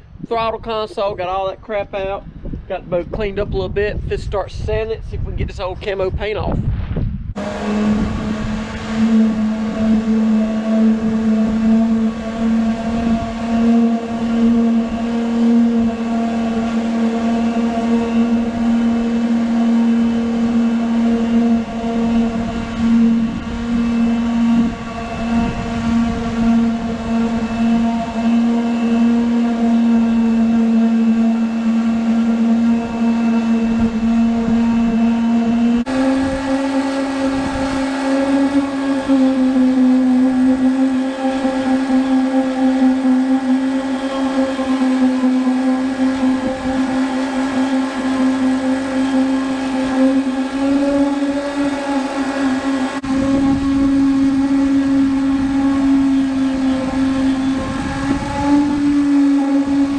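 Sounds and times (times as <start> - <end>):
electric power sander running: 7.4 - 59.9.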